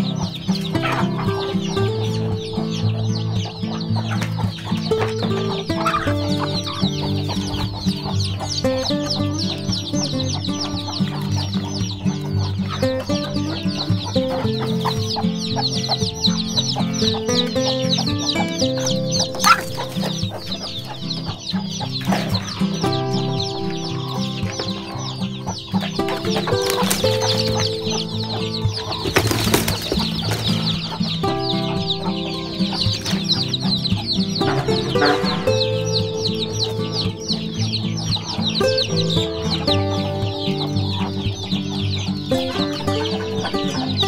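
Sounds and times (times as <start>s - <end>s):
background music: 0.0s - 44.0s
chicks peeping: 0.0s - 44.0s.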